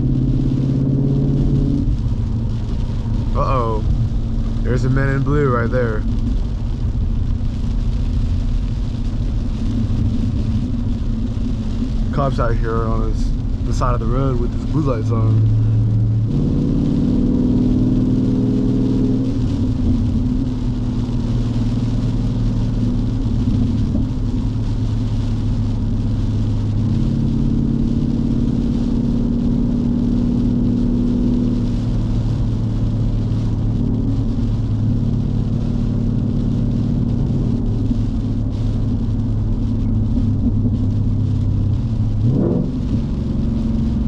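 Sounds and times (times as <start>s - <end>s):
car engine droning in cabin: 0.0s - 44.0s
rain: 0.0s - 44.0s.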